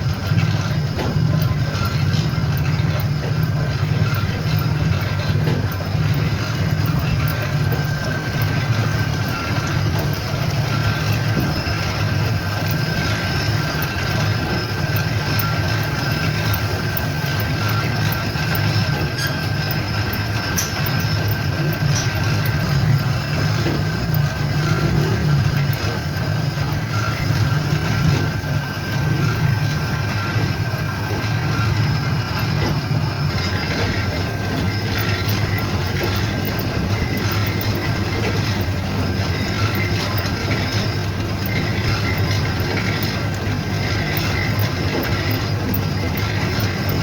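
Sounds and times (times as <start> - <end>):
machinery humming: 0.0 - 47.0.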